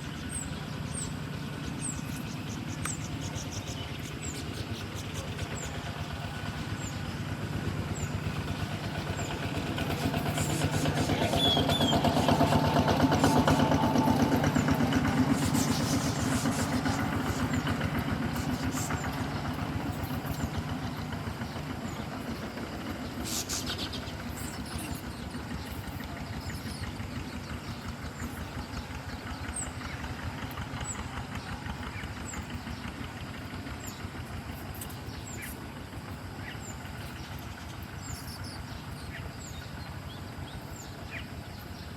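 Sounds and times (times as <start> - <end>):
motor engine pulsing: 0.0 - 41.9.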